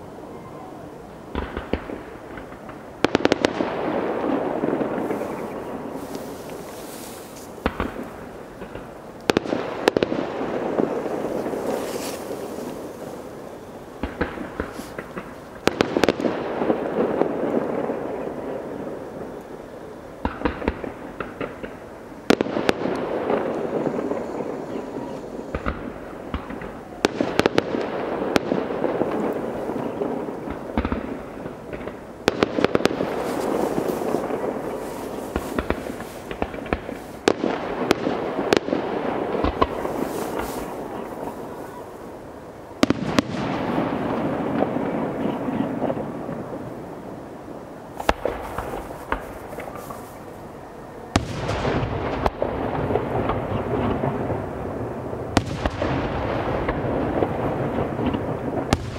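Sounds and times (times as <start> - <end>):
small crackling firework reports: 0.0 - 58.9
firework shells exploding: 1.3 - 42.2, 42.8 - 46.8, 47.9 - 50.5, 51.1 - 58.9.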